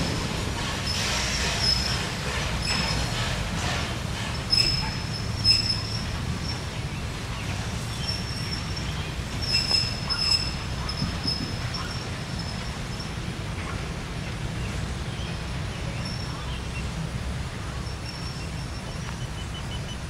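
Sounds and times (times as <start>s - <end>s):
steam train rumbling: 0.0s - 20.0s
wheels squealing on rails: 0.0s - 20.0s.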